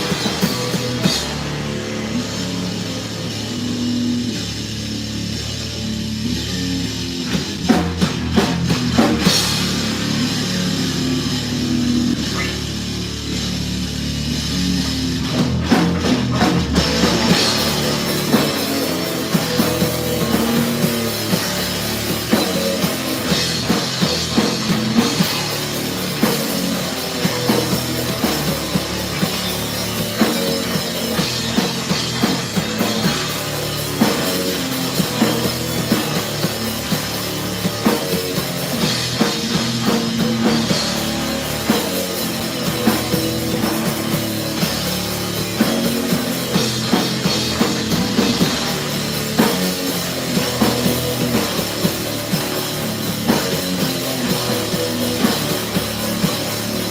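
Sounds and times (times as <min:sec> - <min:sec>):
drum kit beat: 0:00.0 - 0:56.9
rock band playing live: 0:00.0 - 0:56.9.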